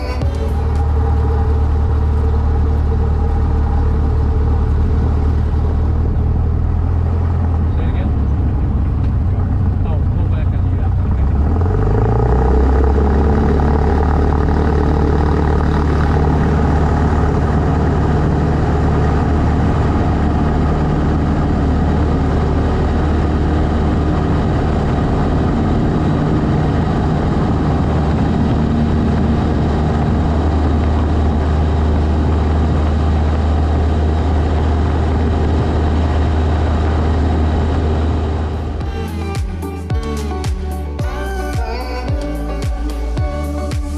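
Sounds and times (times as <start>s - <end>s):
propeller plane engine drone: 0.0s - 43.9s.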